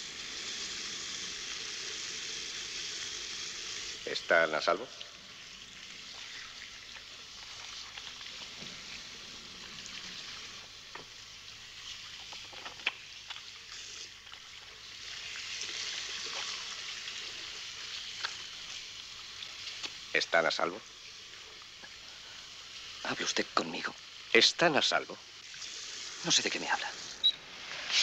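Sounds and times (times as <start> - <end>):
film soundtrack hiss: 0.0 - 28.0.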